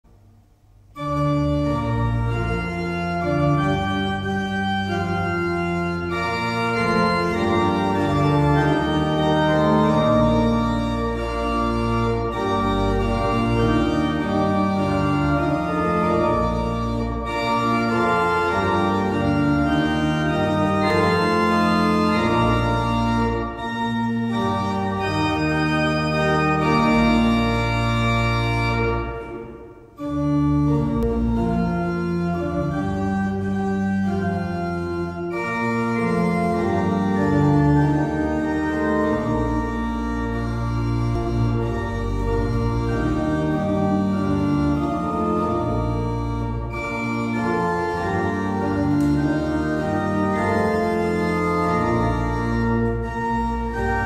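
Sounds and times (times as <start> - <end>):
church organ playing chords: 0.1 - 54.0.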